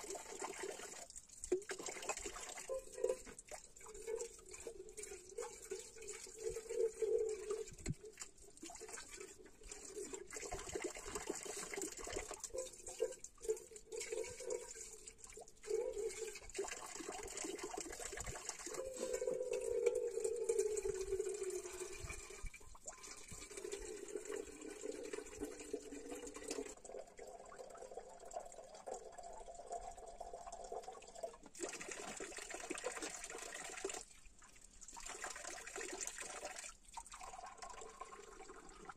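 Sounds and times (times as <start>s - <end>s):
water pouring into kettle: 0.0s - 38.9s.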